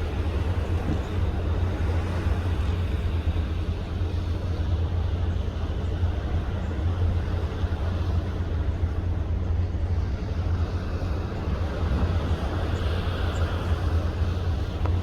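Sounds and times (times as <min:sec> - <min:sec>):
rushing water wash: 0:00.0 - 0:15.0
ship engine droning rumble: 0:00.0 - 0:15.0.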